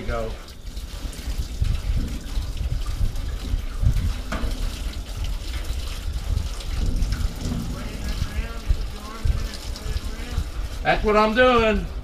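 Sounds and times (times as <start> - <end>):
hose water splashing in a tank: 0.0 - 12.0.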